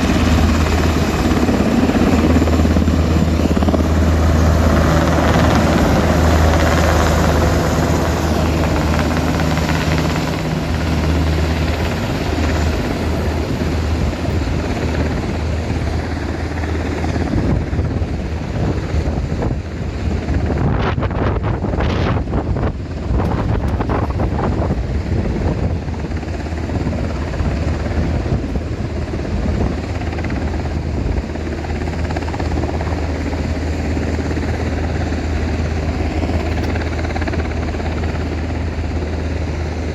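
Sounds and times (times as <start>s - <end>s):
helicopter rotor and turbine running: 0.0s - 39.9s.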